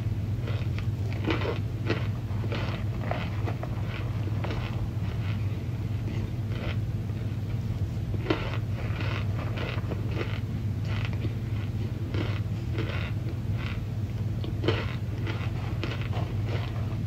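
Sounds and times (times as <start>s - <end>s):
steady low hum: 0.0s - 17.0s
crunchy chewing: 0.3s - 17.0s.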